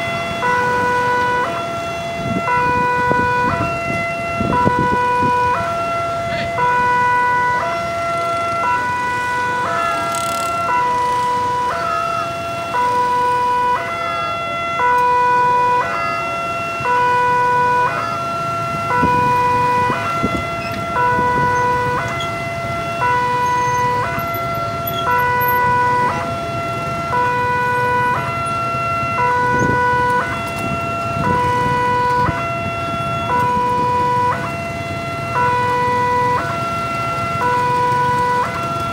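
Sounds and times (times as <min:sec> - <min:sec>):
railroad crossing alarm ding-dong: 0:00.0 - 0:38.9
road traffic idling: 0:00.0 - 0:38.9.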